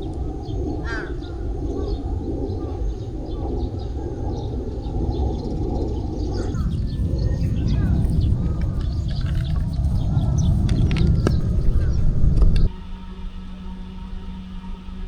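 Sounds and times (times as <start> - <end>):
birds chirping: 0.0 - 12.7
rushing outdoor background: 0.0 - 15.0.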